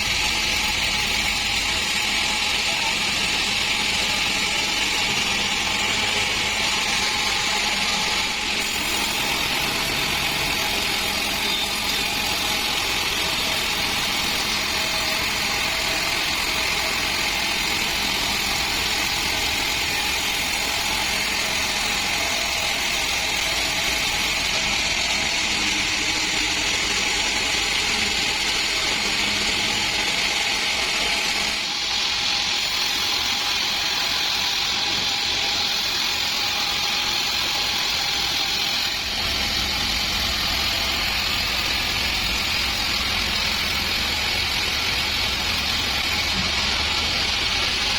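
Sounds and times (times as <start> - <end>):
band saw cutting log: 0.0 - 47.9.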